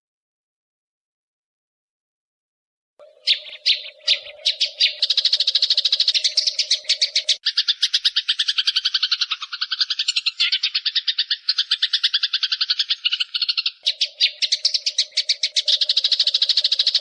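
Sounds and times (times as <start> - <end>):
sparrows chirping and chattering: 3.0 - 17.0.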